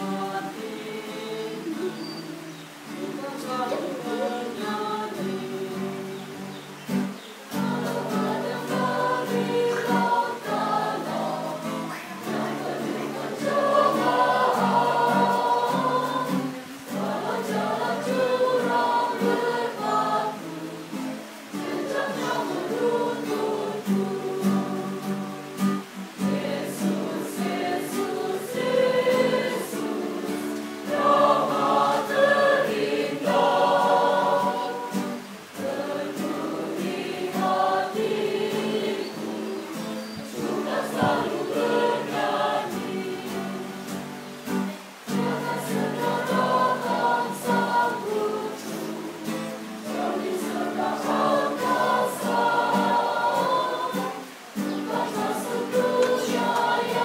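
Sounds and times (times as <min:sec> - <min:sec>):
acoustic guitar: 0:00.0 - 0:57.0
mixed choir singing: 0:00.0 - 0:57.0.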